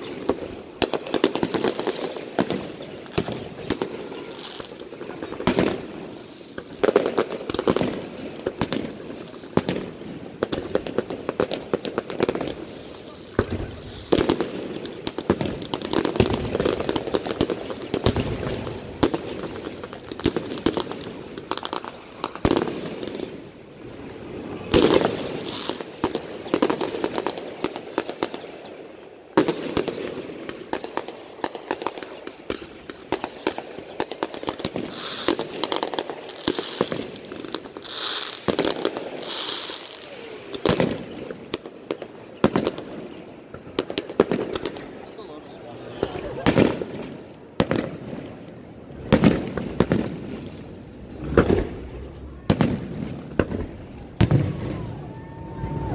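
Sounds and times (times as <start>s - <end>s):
loud firework bangs: 0.0s - 23.5s, 24.4s - 39.8s, 45.9s - 55.9s
fireworks bursting and crackling: 0.0s - 55.9s.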